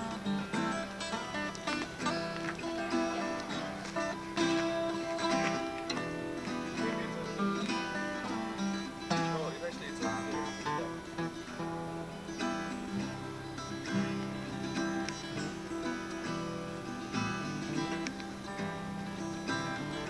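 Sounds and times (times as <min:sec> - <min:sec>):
two acoustic guitars playing: 0:00.0 - 0:20.0.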